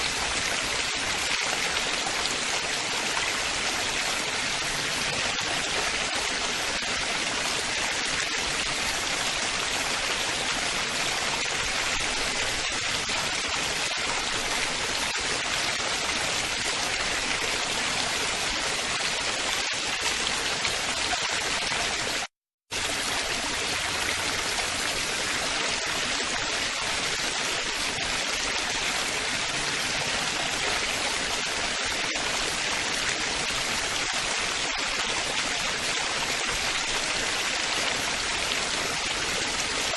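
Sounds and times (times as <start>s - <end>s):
water babbling and splashing: 0.0s - 39.9s.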